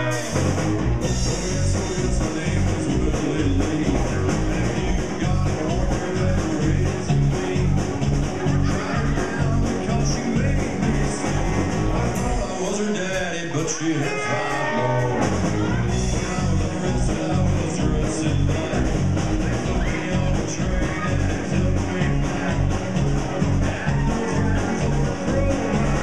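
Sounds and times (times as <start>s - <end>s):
live blues-rock band: 0.0s - 26.0s.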